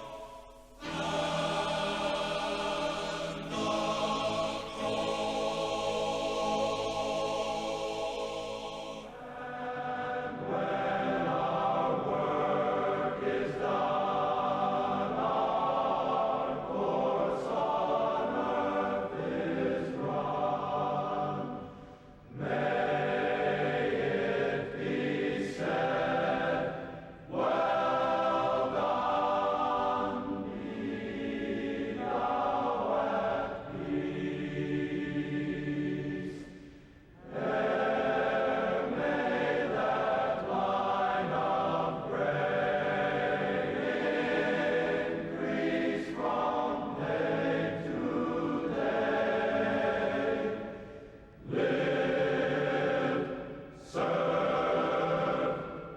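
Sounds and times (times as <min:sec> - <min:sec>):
choir singing slow chords: 0:00.0 - 0:55.9.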